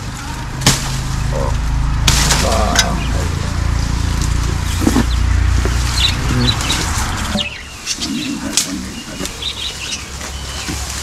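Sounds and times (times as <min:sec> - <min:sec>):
leafy branches rustling: 0:00.0 - 0:11.0
small birds chirping: 0:00.0 - 0:11.0.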